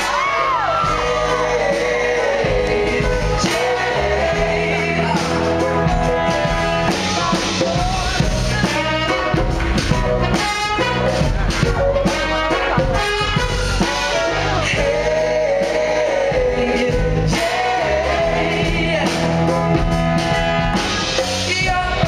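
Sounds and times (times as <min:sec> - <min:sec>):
lead singer singing: 0:00.0 - 0:10.1, 0:12.0 - 0:22.0
live band playing pop song: 0:00.0 - 0:22.0.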